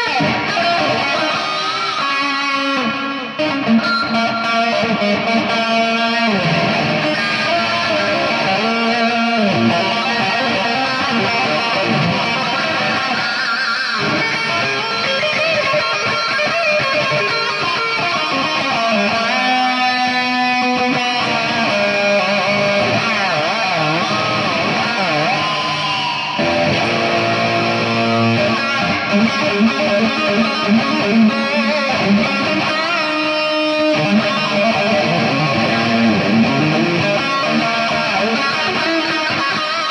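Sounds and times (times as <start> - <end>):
electric guitar with bending notes: 0.0 - 39.9.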